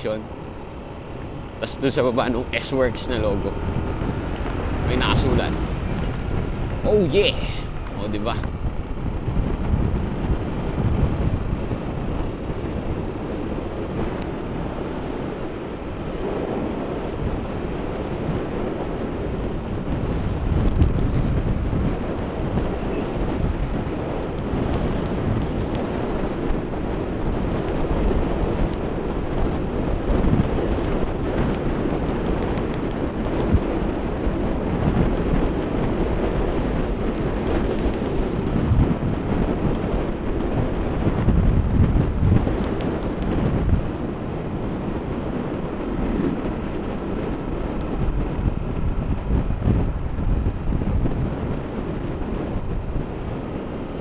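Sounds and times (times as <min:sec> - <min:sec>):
road and vehicle noise: 0:00.0 - 0:54.0
wind buffeting microphone: 0:00.0 - 0:54.0.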